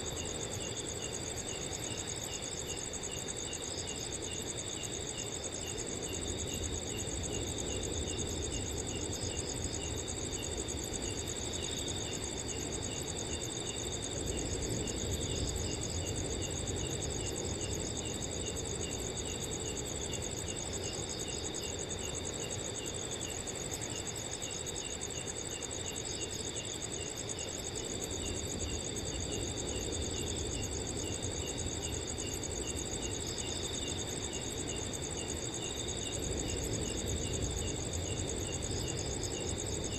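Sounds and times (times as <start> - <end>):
cricket chirping: 0.0 - 39.9
crickets trilling: 0.0 - 39.9.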